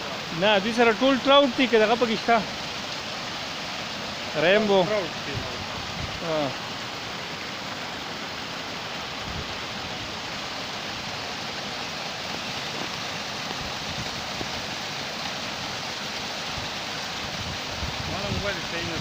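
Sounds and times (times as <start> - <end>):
water flowing: 0.0 - 19.0.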